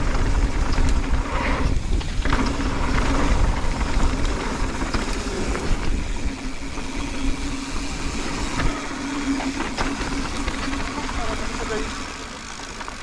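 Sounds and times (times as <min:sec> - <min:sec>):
wind buffeting microphone: 0:00.0 - 0:12.0
bike humming: 0:00.0 - 0:13.0
bike rattling: 0:00.0 - 0:13.0
bike tyres rolling over dirt: 0:00.0 - 0:13.0.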